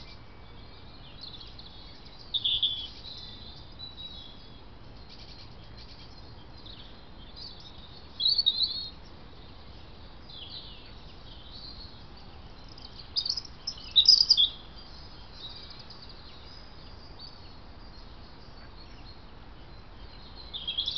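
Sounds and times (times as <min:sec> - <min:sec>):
small birds chirping: 0:00.0 - 0:20.9
steady background hiss: 0:00.0 - 0:20.9.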